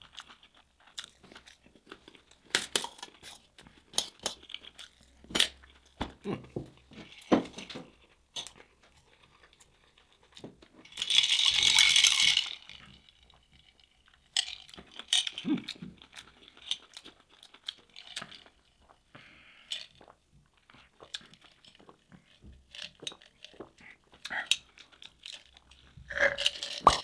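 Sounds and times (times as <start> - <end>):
crunching and chewing: 0.0 - 27.0.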